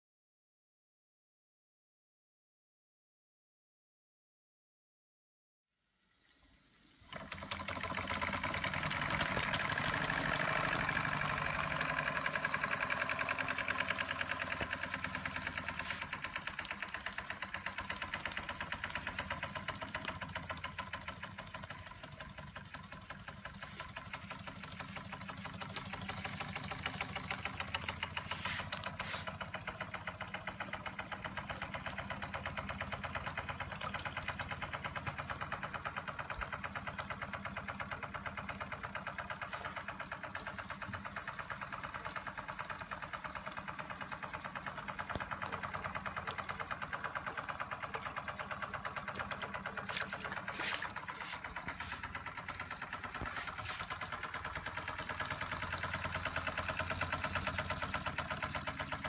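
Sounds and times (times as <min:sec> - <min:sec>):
toy steam engine ticking: 0:07.1 - 0:59.0.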